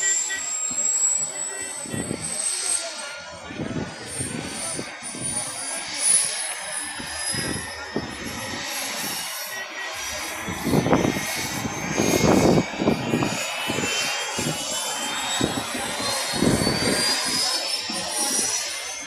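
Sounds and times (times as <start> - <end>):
helicopter turbine whine: 0.0 - 19.0.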